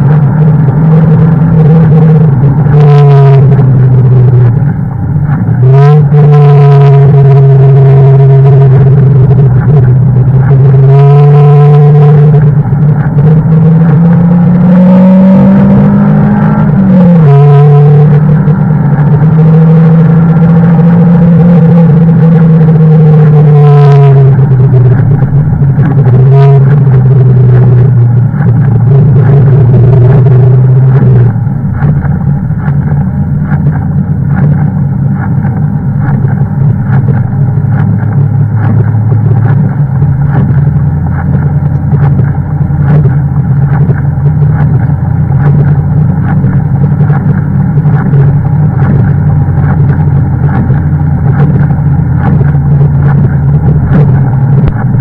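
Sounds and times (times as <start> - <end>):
car engine droning inside cabin: 0.0 - 55.0.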